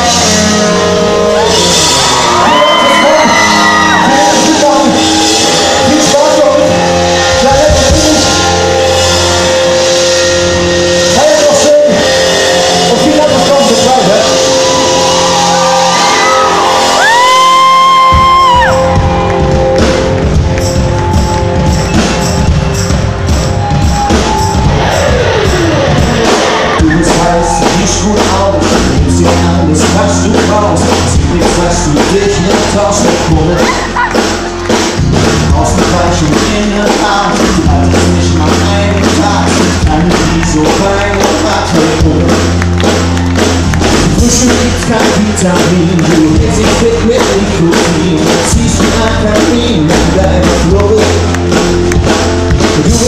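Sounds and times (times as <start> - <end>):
drums steady beat: 0.0 - 53.0
live pop rock band: 0.0 - 53.0.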